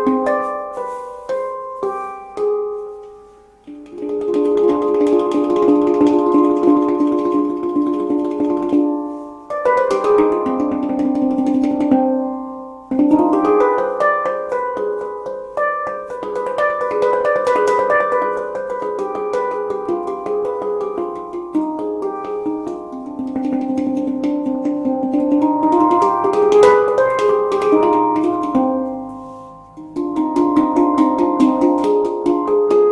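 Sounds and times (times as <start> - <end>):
handpan played by hand: 0.0 - 32.9.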